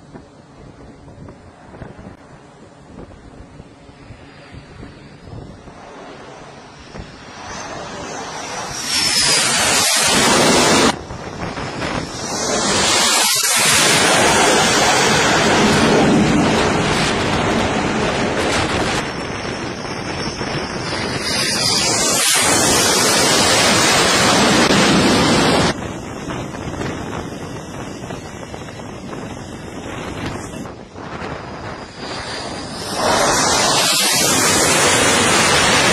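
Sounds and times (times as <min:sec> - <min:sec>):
jet engines passing: 0:00.0 - 0:35.9.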